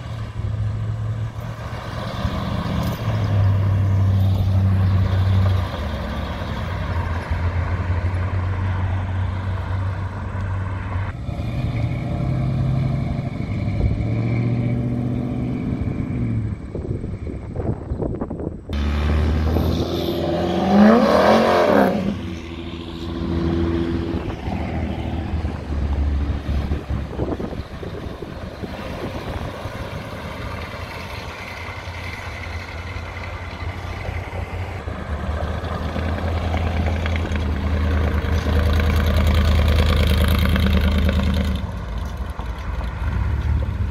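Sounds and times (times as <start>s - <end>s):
cars driving past: 0.0s - 43.9s.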